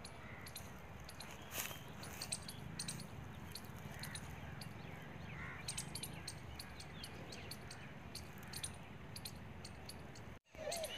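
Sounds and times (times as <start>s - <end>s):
faint bird chirps: 0.0s - 10.9s.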